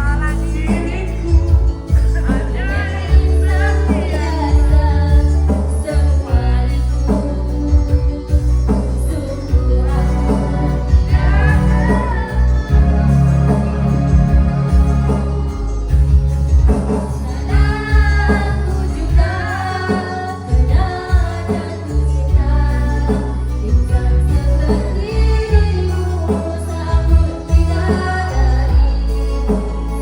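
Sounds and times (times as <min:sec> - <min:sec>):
singing voice: 0:00.0 - 0:30.0
strong steady bass line: 0:00.0 - 0:30.0.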